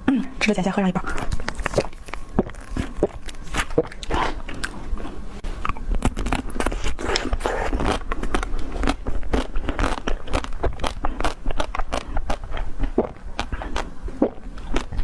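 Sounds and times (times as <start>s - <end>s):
chewing crunchy food: 1.0s - 15.0s.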